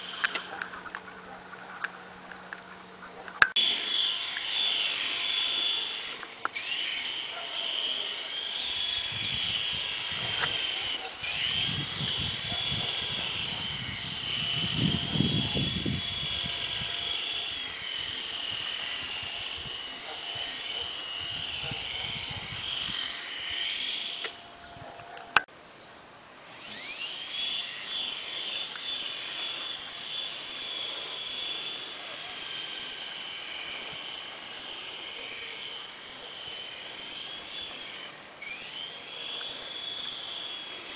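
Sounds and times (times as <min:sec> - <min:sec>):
rc helicopter rotor whine: 0:00.0 - 0:25.5, 0:26.2 - 0:40.9.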